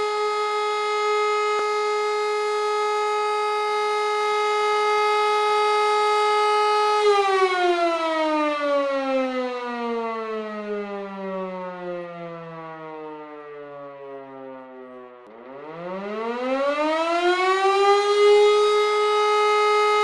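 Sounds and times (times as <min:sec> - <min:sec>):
fire alarm siren wailing: 0:00.0 - 0:20.0.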